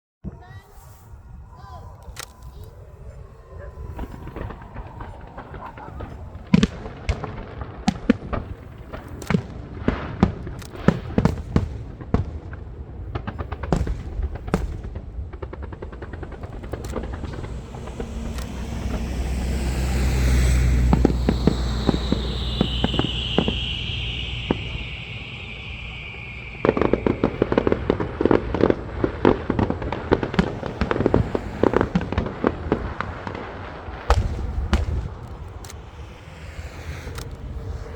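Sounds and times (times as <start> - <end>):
falling firework whistle: 0.3 - 37.9
fireworks bangs: 0.3 - 37.9
low rumble: 0.4 - 9.2, 13.0 - 37.9
rapid crackling pops: 3.4 - 37.9.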